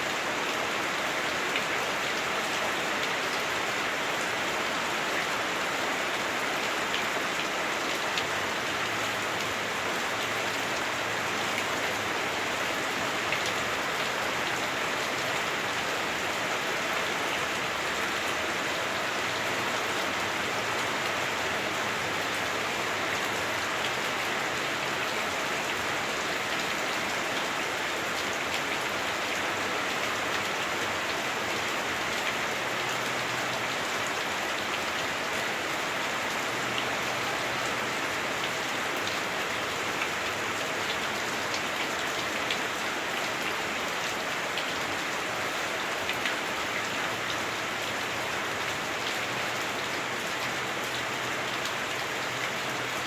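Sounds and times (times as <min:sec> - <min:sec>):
heavy rain on a roof: 0:00.0 - 0:53.0.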